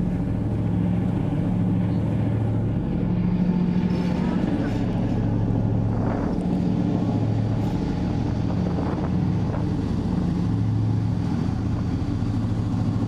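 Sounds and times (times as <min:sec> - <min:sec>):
ferry machinery drone: 0:00.0 - 0:13.0.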